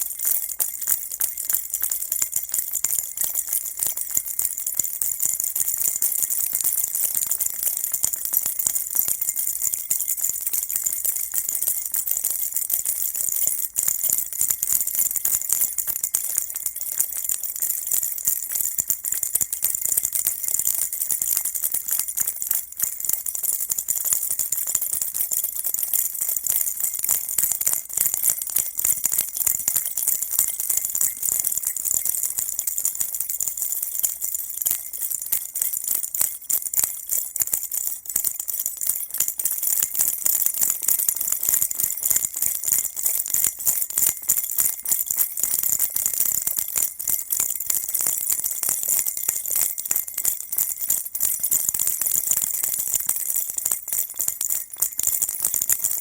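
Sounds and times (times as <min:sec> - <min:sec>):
baby rattle shaking: 0:00.0 - 0:56.0.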